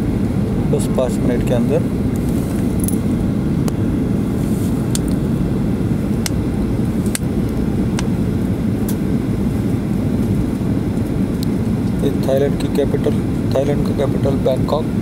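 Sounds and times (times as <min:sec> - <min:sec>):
airliner cabin engine and airflow roar: 0:00.0 - 0:15.0.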